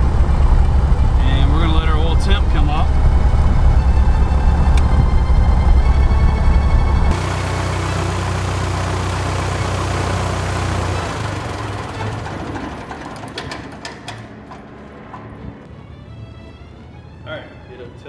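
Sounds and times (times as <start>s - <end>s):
propeller winding down: 0.0s - 16.9s
aircraft engine idling: 0.0s - 17.2s.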